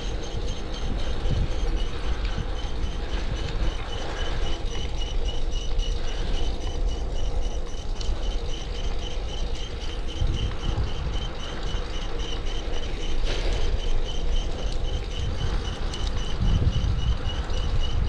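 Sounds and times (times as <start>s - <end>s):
bicycle chain chirping: 0.0s - 18.0s
tyres and wind rumbling: 0.0s - 18.0s.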